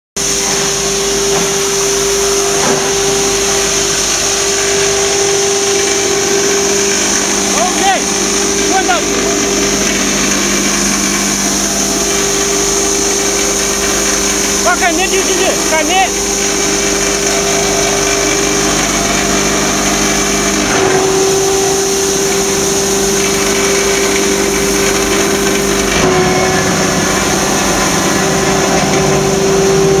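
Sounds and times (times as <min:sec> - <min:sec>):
foam shredder whirring: 0:00.2 - 0:30.0.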